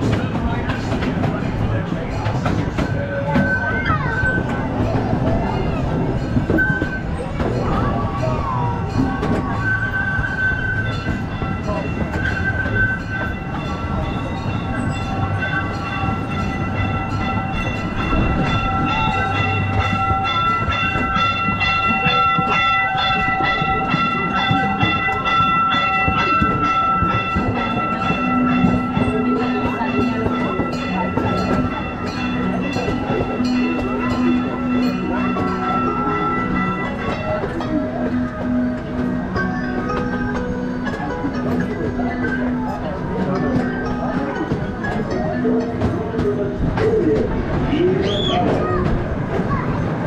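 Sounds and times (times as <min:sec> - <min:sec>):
train whine and rumble: 0:00.0 - 0:50.0
wheels clicking on rails: 0:00.0 - 0:50.0.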